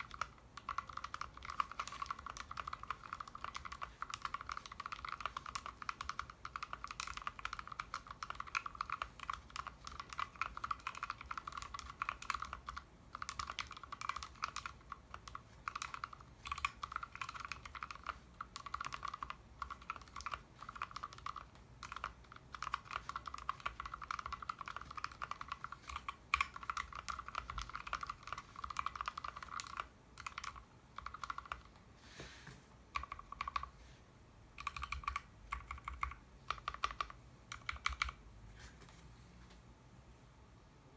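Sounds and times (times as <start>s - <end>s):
fast typing on mechanical keyboard: 0.0s - 31.8s, 32.9s - 33.7s, 34.5s - 38.2s.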